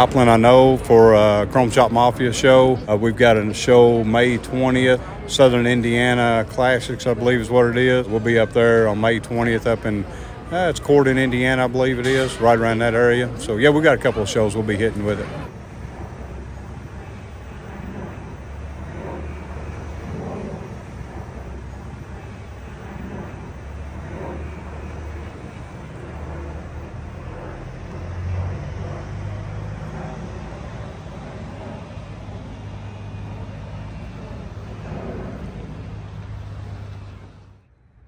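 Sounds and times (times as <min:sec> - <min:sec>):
distant vehicles rumbling: 0:00.0 - 0:38.0.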